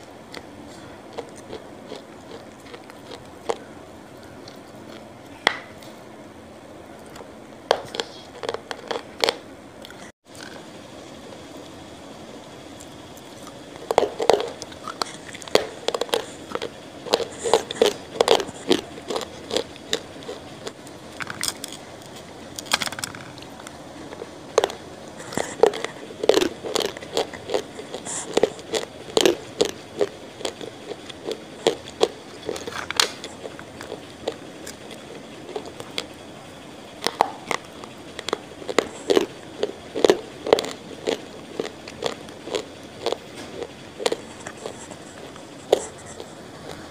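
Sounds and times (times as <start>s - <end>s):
person chewing food: 0.0s - 6.0s, 7.0s - 10.6s, 12.8s - 46.9s.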